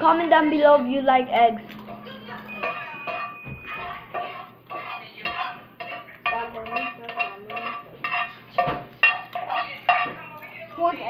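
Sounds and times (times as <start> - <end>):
cutlery and dishes clinking: 1.6 - 10.8.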